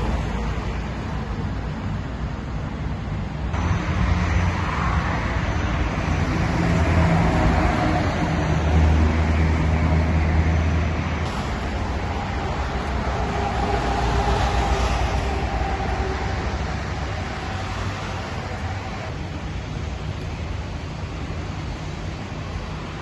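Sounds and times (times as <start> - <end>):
low rumble of engines and traffic: 0.0 - 23.0.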